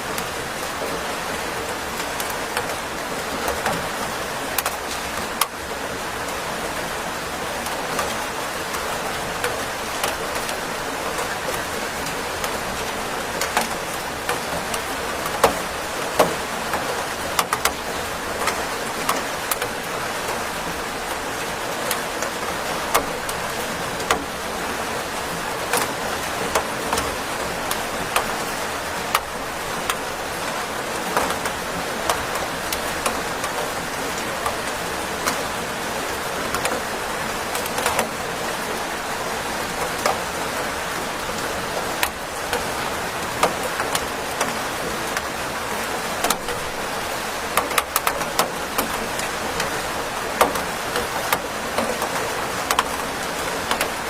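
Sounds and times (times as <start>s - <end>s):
steady rainfall hiss: 0.0s - 54.0s
raindrops tapping hard surface: 8.7s - 54.0s.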